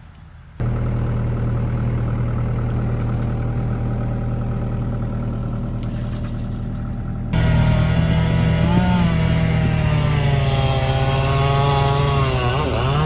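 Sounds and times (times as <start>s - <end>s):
large engine humming: 0.6s - 13.0s.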